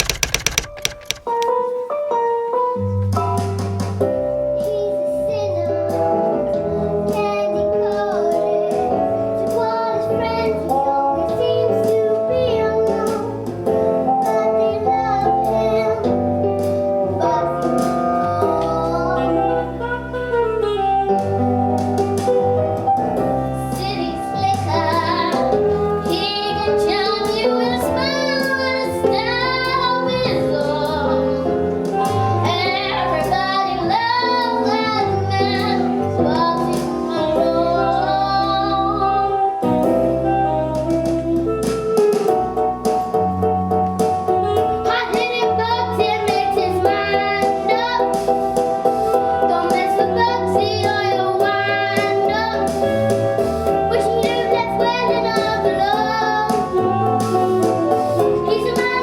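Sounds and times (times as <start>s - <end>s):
piano-led accompaniment with bass beat: 0.0s - 59.0s.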